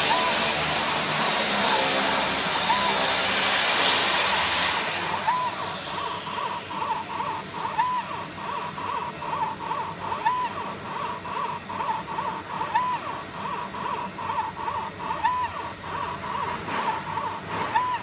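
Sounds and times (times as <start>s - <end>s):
held machine tone: 0.0s - 18.0s
laser marking machine chirps: 0.0s - 18.0s.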